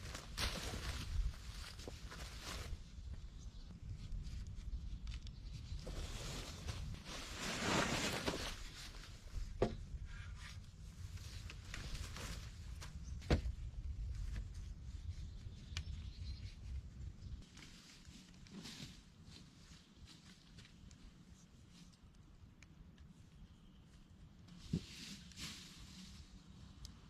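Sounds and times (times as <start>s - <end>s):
rustling and shuffling: 0.0s - 15.8s, 16.4s - 22.2s, 23.9s - 27.0s.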